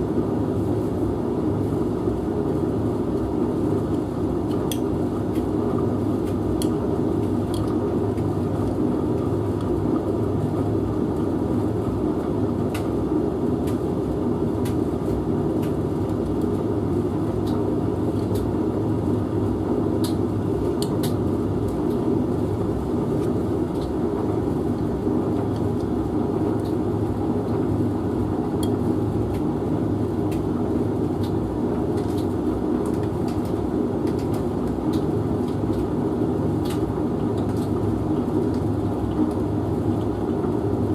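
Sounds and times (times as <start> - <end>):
laundry machine humming: 0.0 - 40.9.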